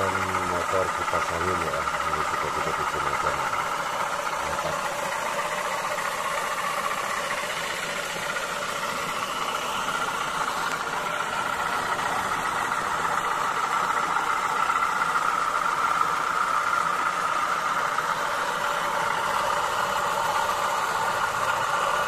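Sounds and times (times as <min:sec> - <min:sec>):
electric motor hum: 0:00.0 - 0:22.0
spinning drum whir: 0:00.0 - 0:22.0.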